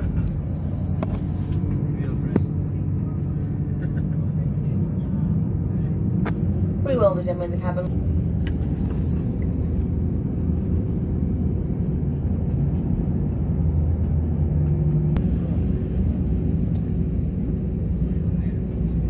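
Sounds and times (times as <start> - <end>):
jet engine rumble in cabin: 0.0 - 19.0.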